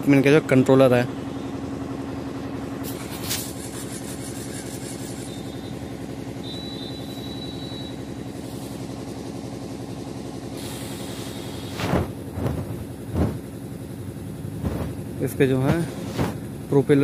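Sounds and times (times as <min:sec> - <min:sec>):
motor humming: 0:01.2 - 0:16.7.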